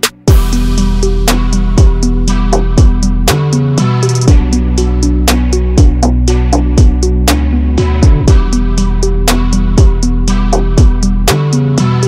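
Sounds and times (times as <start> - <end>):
deep kick drum: 0.2 - 4.8, 5.4 - 11.3
held bass notes: 0.2 - 12.0.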